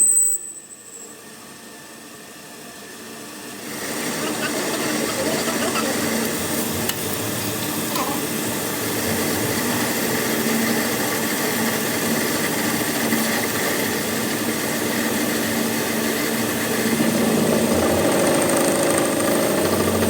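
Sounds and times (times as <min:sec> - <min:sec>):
motor-driven machine humming: 0:03.6 - 0:20.0.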